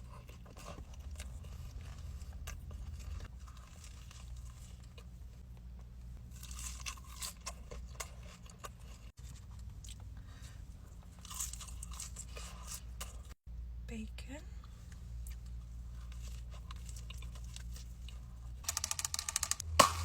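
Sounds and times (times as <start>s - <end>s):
crunchy chewing: 0.0s - 13.4s, 14.9s - 18.6s.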